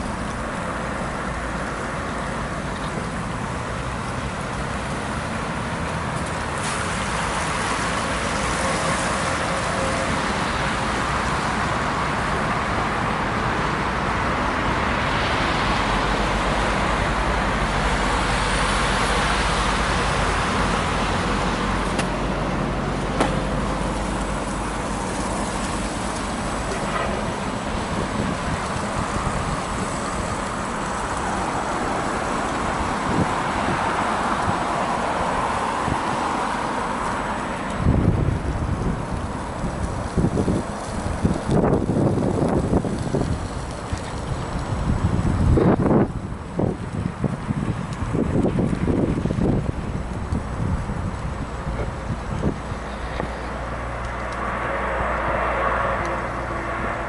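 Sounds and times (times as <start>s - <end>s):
road traffic passing: 0.0s - 57.0s
wind noise on microphone: 6.5s - 57.0s.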